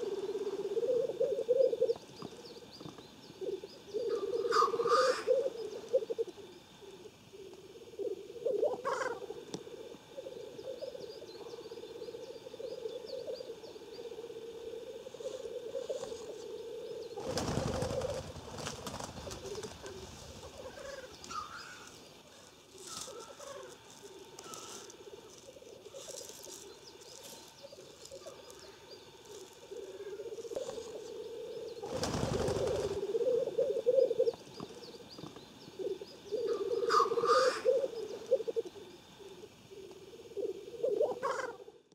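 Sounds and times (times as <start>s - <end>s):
grouse bubbling cooing chorus: 0.0s - 2.2s, 3.4s - 27.1s, 27.7s - 34.6s, 35.4s - 41.9s.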